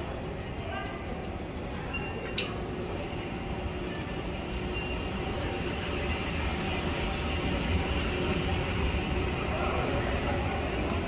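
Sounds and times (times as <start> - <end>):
escalator rumble and hum: 0.0 - 11.0.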